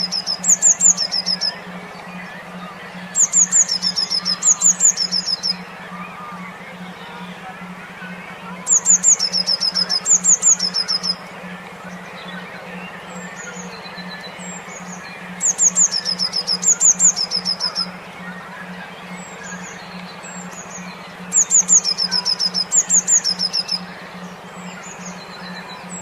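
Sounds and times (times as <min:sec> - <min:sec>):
low pulsing hum: 0:00.0 - 0:26.0
songbird song: 0:00.0 - 0:26.0.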